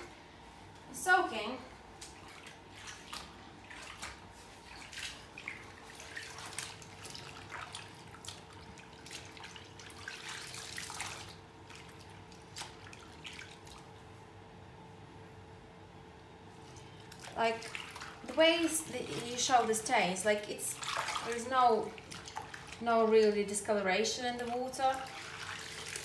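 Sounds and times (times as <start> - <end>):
water splashing in a tub: 1.9 - 14.1, 16.6 - 26.0.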